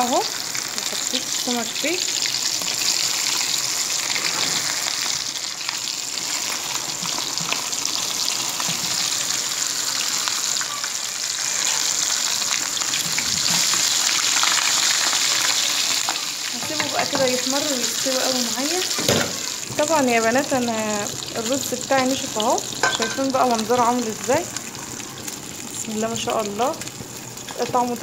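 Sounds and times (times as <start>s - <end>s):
fish sizzling in oil: 0.0s - 28.0s.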